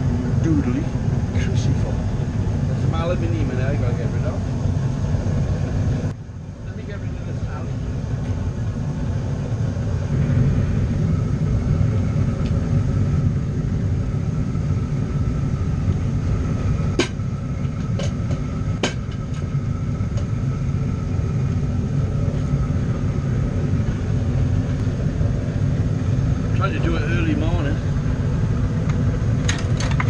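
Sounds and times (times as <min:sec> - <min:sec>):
faint whine: 0:00.0 - 0:30.0
furnace low rumble: 0:00.0 - 0:30.0.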